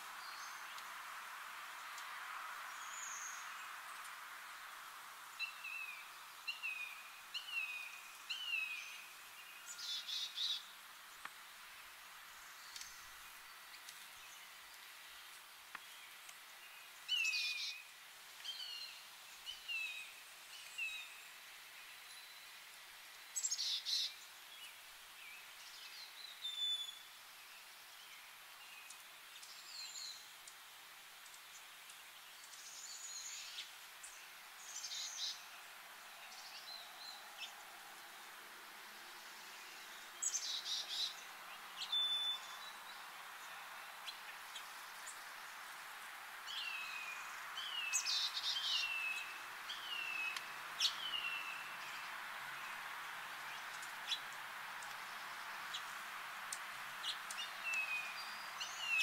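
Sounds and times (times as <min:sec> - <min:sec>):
outdoor hiss: 0:00.0 - 0:59.0
songbirds chirping: 0:00.0 - 0:59.0.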